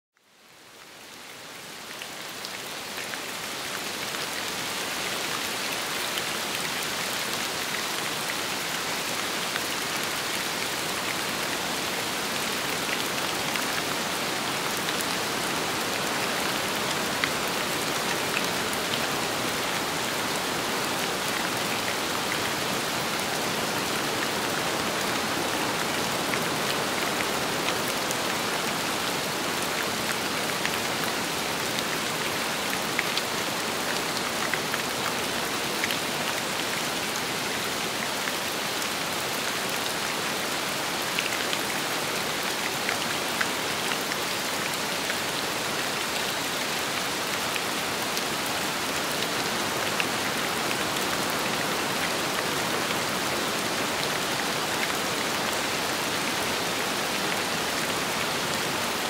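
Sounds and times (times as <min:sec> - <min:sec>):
steady rain falling: 0:00.2 - 0:59.0.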